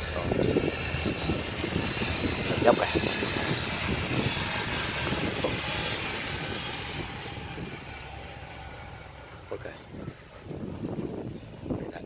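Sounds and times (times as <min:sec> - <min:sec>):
combine harvester engine drone: 0:00.0 - 0:11.2.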